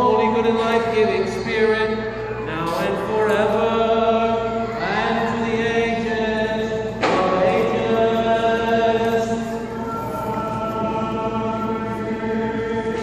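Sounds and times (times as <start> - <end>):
voices chanting slow melody: 0.0 - 13.0.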